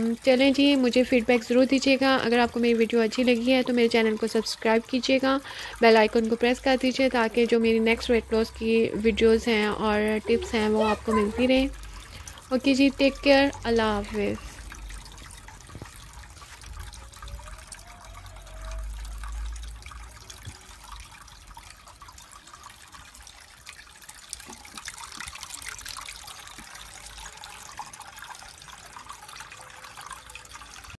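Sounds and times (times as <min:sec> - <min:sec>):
fountain water trickling and splashing: 0:00.0 - 0:31.0.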